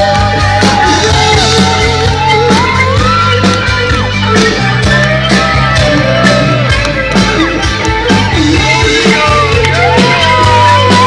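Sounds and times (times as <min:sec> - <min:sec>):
audience shouting: 0:00.0 - 0:06.9, 0:08.6 - 0:11.0
live rock band playing: 0:00.0 - 0:11.0.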